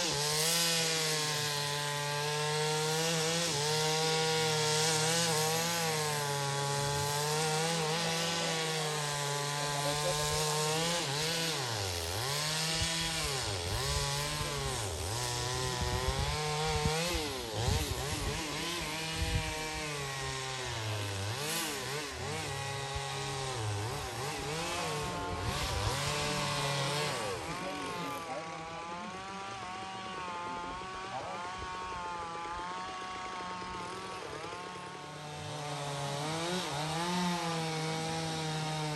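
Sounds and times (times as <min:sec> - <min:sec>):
small engine drone: 0:00.0 - 0:38.9.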